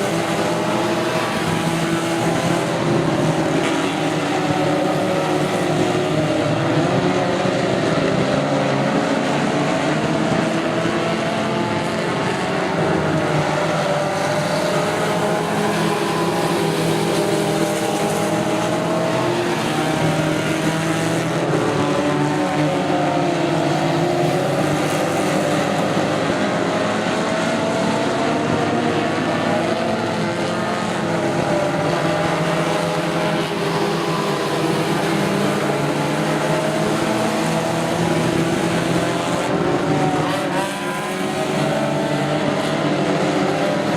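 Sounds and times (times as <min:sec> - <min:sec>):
race truck engines revving: 0:00.0 - 0:43.9.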